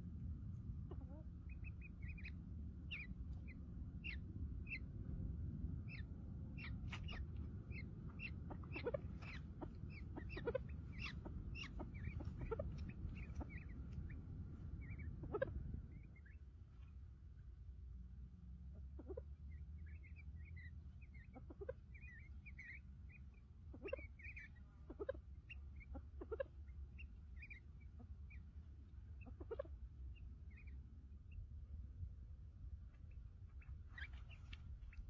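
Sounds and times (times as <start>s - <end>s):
wind rumble on microphone: 0.0s - 22.8s, 28.3s - 35.0s
birds chirping high: 0.8s - 17.0s, 18.8s - 31.5s, 33.0s - 35.0s.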